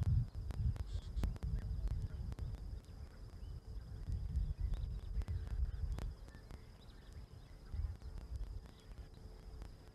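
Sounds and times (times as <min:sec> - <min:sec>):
high insect tone: 0:00.0 - 0:09.9
wind rumble on microphone: 0:00.0 - 0:09.9
faint bird chirps: 0:00.1 - 0:09.9.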